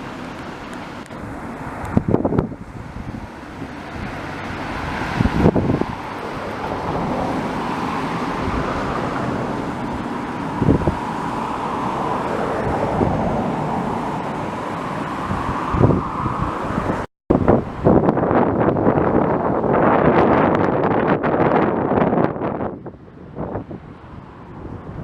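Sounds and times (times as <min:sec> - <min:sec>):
river rushing: 0:00.0 - 0:25.0
wind buffeting microphone: 0:00.0 - 0:25.0.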